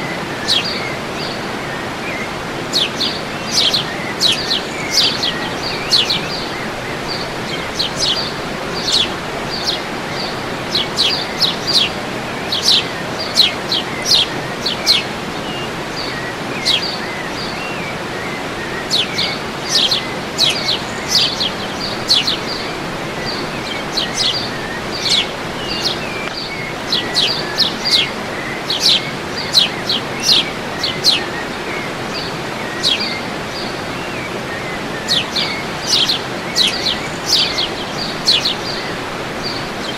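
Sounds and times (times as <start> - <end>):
birds chirping: 0.0 - 39.9
waterfall rushing: 0.0 - 39.9.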